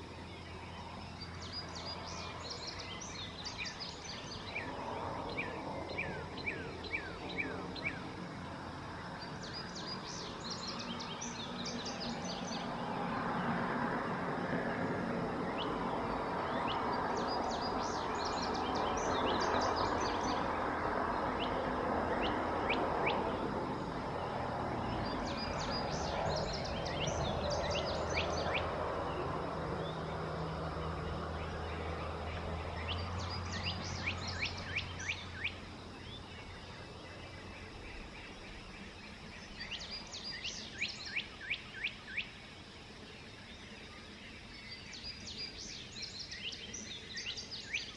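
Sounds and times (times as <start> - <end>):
outdoor background hiss: 0.0 - 47.9
songbird chirping: 0.0 - 47.9.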